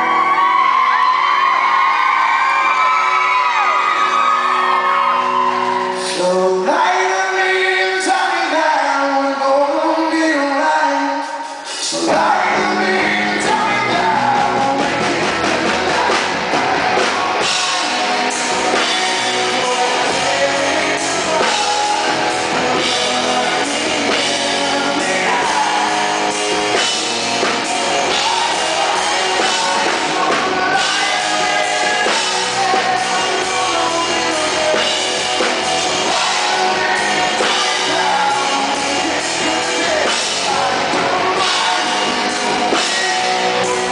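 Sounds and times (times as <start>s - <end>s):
rock band playing: 0.0s - 43.9s
man singing: 5.9s - 43.9s.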